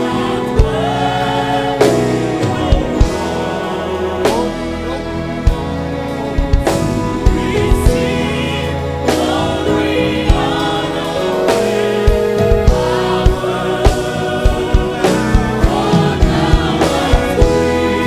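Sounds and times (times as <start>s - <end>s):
band accompaniment: 0.0s - 18.0s
choir singing gospel: 0.0s - 18.0s
steady drum beat: 0.0s - 18.0s.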